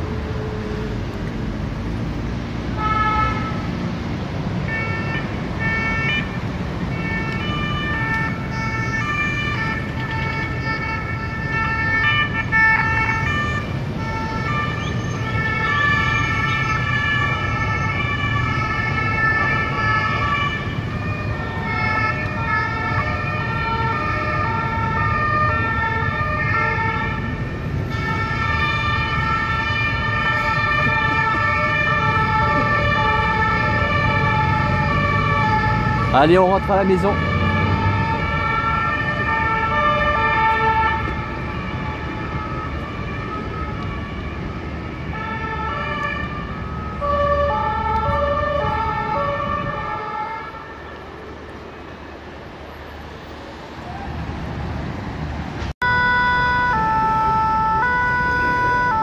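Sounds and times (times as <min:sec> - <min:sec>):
two-tone sirens: 0:00.0 - 0:52.0, 0:52.7 - 0:59.0
city traffic rumble: 0:00.0 - 0:59.0.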